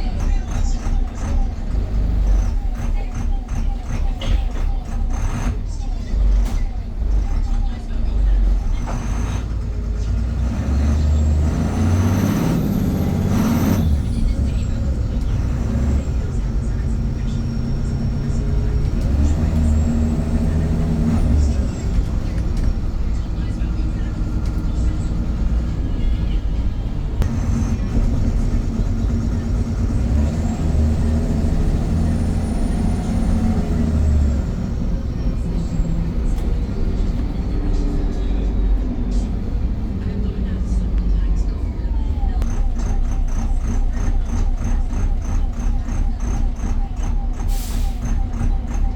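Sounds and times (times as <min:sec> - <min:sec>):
bus engine humming: 0:00.0 - 0:48.9.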